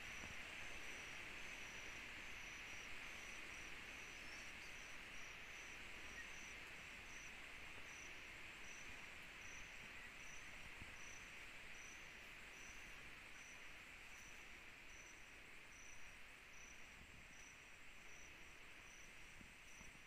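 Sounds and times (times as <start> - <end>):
night insect chorus hiss: 0.0 - 20.0.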